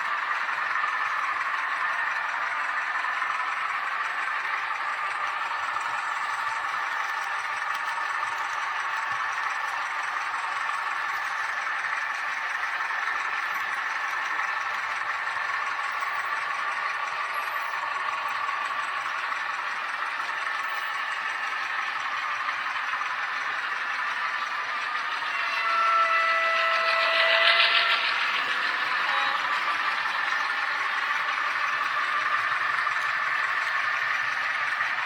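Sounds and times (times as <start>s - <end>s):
model train running on rails: 0.0s - 35.0s.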